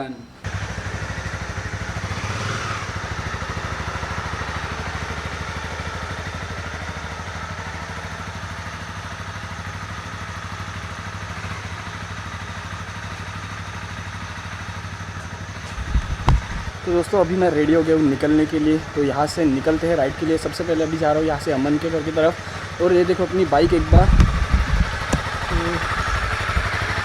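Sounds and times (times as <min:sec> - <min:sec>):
motorcycle engine idling: 0:00.4 - 0:27.0.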